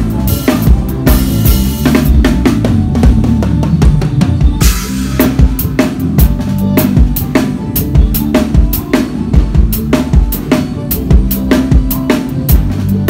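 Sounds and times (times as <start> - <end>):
drum kit groove: 0.0 - 13.0.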